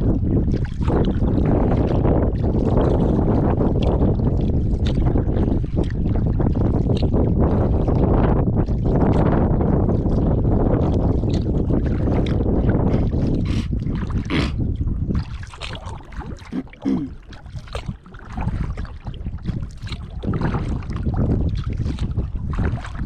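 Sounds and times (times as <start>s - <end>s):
wind on microphone: 0.0s - 23.0s
paddle splashing in water: 0.4s - 8.0s, 10.0s - 23.0s.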